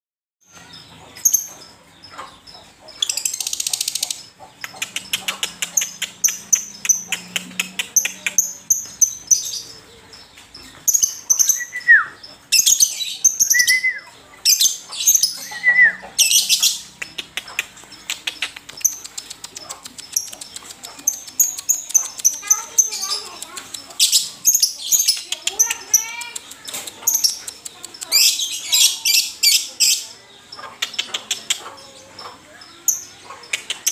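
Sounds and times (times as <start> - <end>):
bird chirping and clicking: 0.5 - 33.9.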